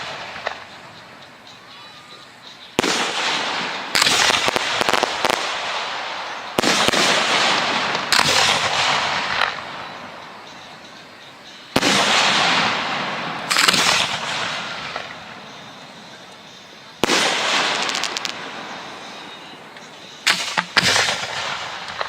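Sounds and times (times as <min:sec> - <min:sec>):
fireworks banging and crackling: 0:00.0 - 0:01.6, 0:02.6 - 0:22.0.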